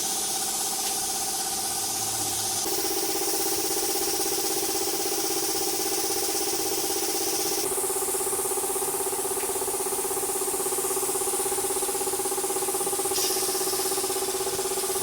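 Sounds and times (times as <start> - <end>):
motor pulsing hum: 1.2 - 15.0.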